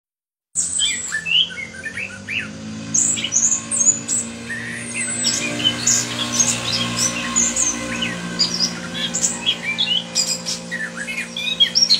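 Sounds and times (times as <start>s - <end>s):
thrush singing: 0.8s - 11.9s.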